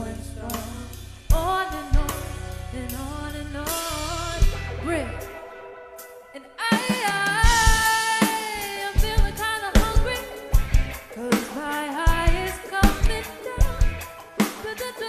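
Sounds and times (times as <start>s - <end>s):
drum kit: 0.0s - 5.4s, 6.0s - 15.0s
live pop-rock band: 0.0s - 15.0s
person singing: 0.0s - 15.0s.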